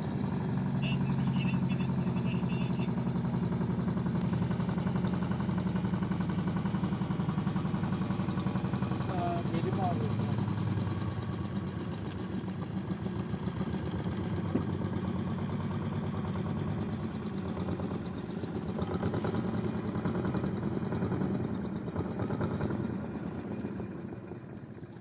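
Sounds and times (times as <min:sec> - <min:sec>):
boat motor chugging: 0:00.0 - 0:25.0.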